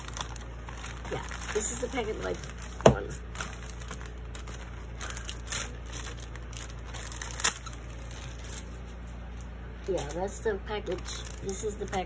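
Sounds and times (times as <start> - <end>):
plastic and paper crinkling: 0.0 - 12.0.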